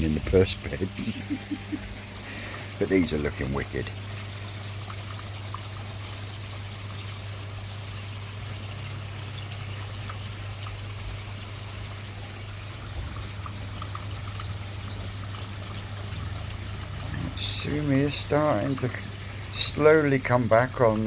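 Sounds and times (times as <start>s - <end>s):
water trickling into a pond: 0.0s - 21.0s.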